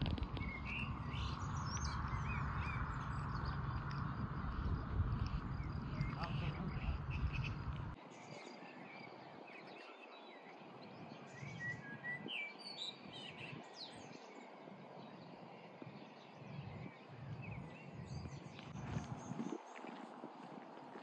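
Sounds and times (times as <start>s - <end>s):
birds chirping: 0.0s - 20.4s.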